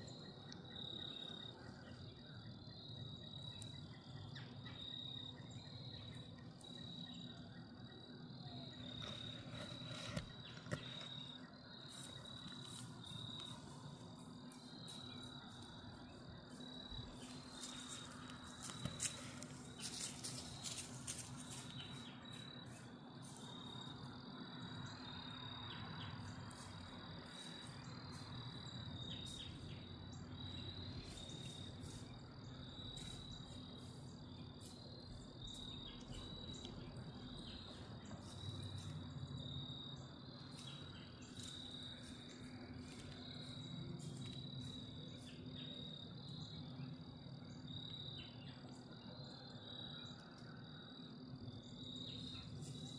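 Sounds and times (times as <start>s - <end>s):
insects chirping: 0.0s - 52.9s.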